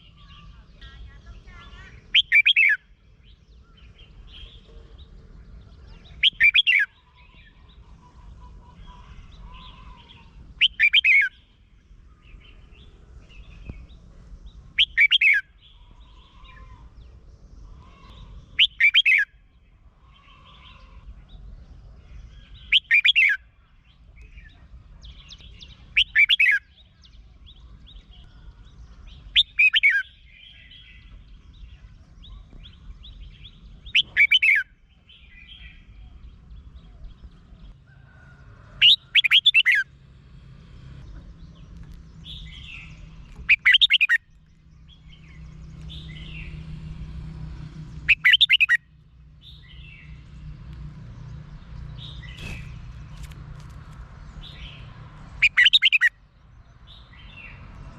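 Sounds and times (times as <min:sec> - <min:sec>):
soft bird chirps: 0:00.0 - 0:39.8, 0:40.8 - 0:57.9.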